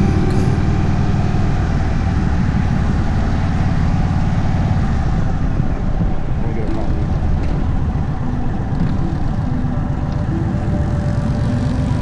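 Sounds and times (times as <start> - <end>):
motorcycle engine running: 0.0 - 12.0
road rumble: 0.0 - 12.0.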